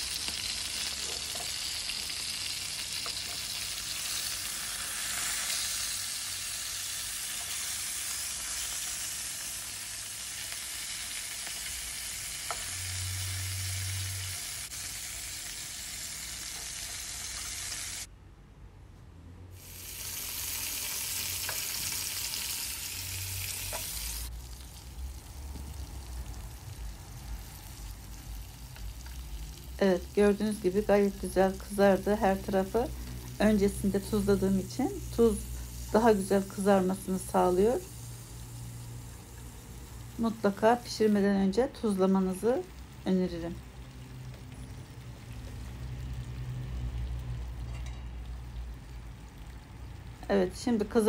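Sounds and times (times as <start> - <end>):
chicken sizzling in hot oil: 0.0 - 18.1, 19.6 - 51.0.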